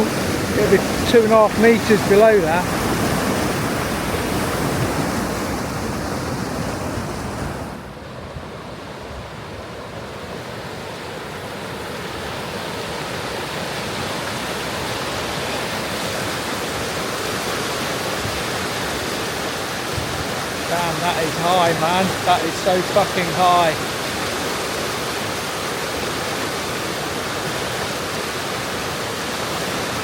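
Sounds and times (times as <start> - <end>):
rushing floodwater: 0.0 - 30.0.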